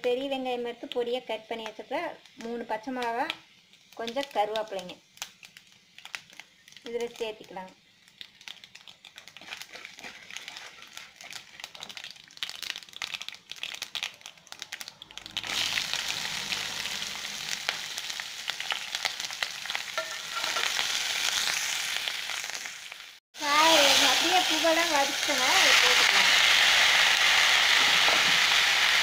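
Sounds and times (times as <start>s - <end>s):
lentils crackling in hot oil: 0.0s - 29.0s
onion sizzling in oil: 0.0s - 29.0s.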